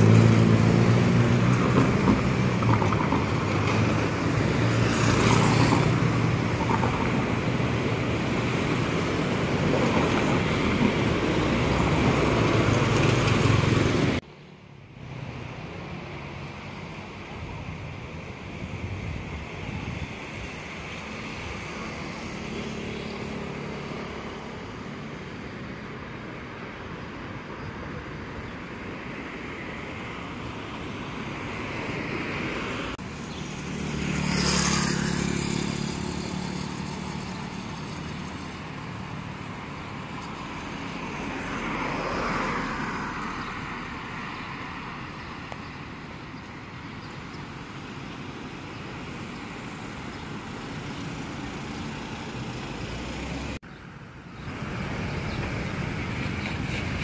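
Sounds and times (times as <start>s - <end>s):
motorbikes passing: 0.0s - 14.2s, 15.2s - 26.6s, 28.1s - 57.0s
cars passing: 0.0s - 57.0s.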